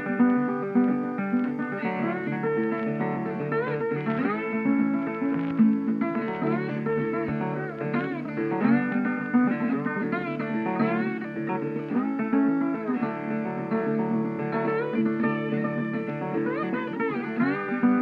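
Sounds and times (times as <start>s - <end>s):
blues guitar playing: 0.0s - 18.0s.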